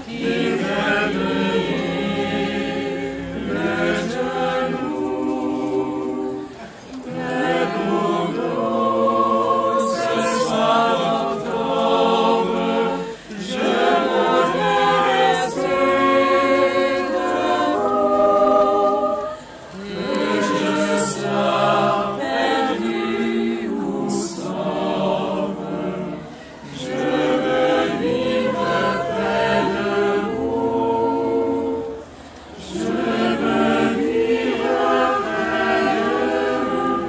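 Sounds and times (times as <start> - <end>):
choir singing a cappella: 0.0 - 37.0.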